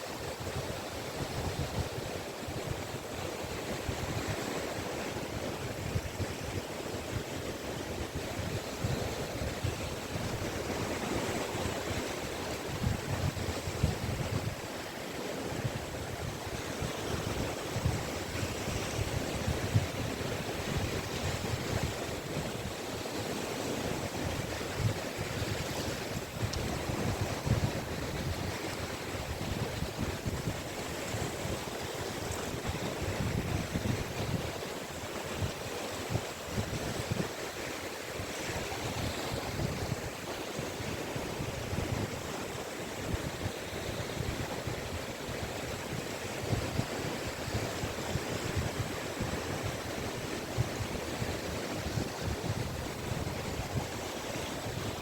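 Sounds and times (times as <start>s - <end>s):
waves washing onto a beach: 0.0s - 55.0s
wind buffeting the microphone: 0.0s - 55.0s.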